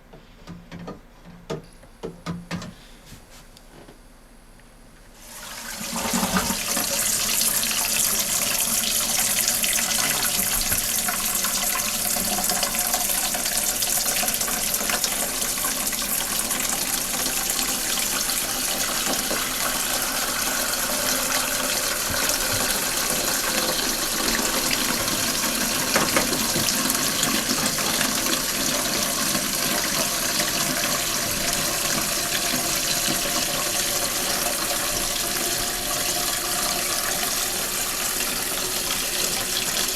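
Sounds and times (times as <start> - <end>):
water filling toilet tank: 5.2 - 39.9.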